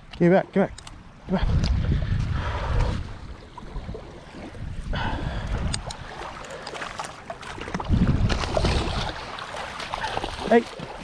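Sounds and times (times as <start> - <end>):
water noise: 0.0 - 11.0
wind rumbling on microphone: 1.0 - 6.4, 7.4 - 11.0.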